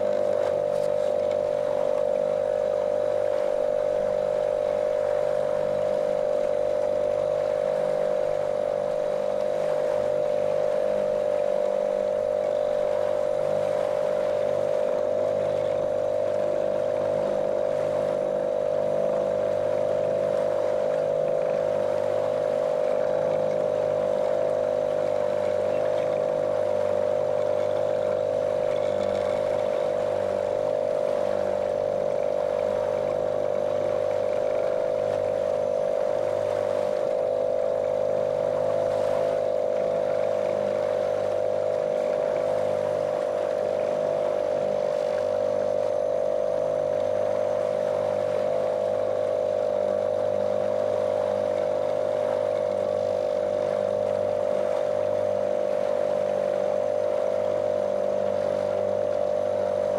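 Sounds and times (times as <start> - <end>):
outboard motor running: 0.0 - 59.9
water rushing along hull: 0.0 - 59.9.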